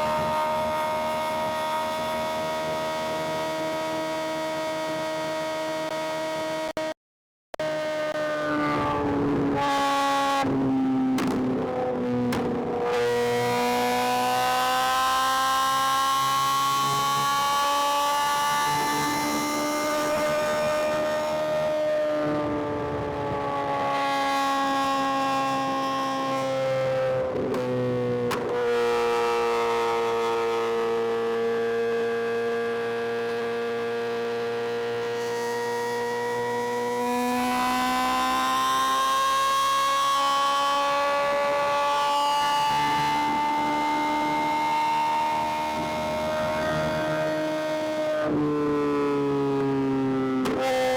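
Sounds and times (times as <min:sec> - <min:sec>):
motorcycle engine accelerating: 0:08.7 - 0:50.9.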